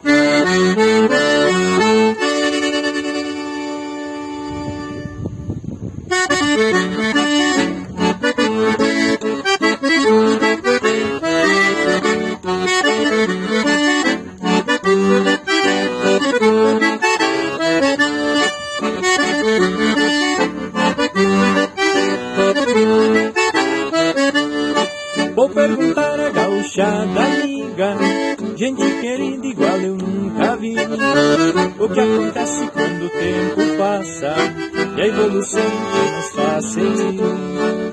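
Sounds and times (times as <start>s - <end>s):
accordion playing lively melody: 0.0s - 37.9s.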